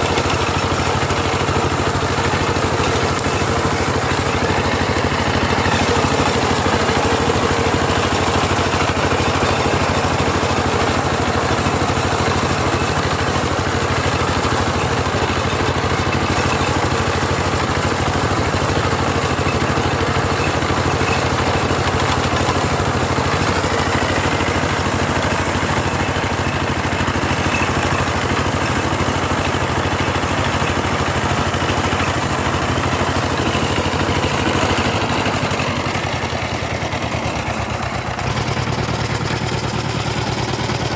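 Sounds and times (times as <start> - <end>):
combine harvester engine running: 0.0 - 40.9.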